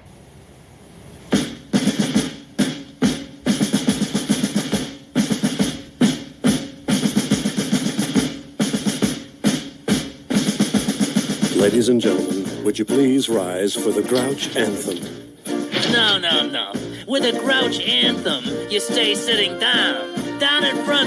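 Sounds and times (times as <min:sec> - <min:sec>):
rapid drum rolls: 0:00.0 - 0:17.0.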